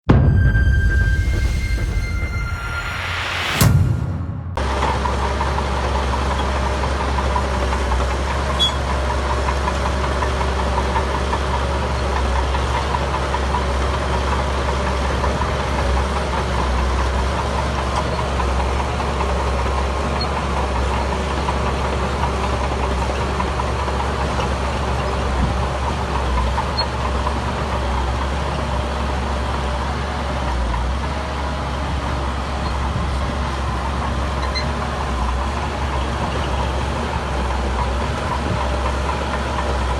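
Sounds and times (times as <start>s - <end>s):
diesel engine rumbling: 4.5s - 39.9s.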